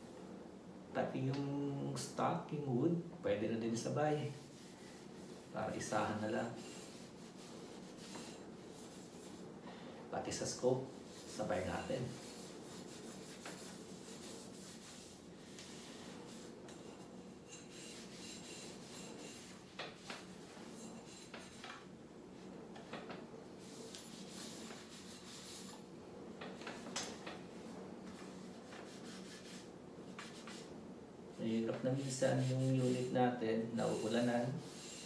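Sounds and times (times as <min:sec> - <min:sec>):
cloth rubbing on metal: 0:04.1 - 0:09.5, 0:10.4 - 0:25.9, 0:26.5 - 0:30.7, 0:31.4 - 0:35.0.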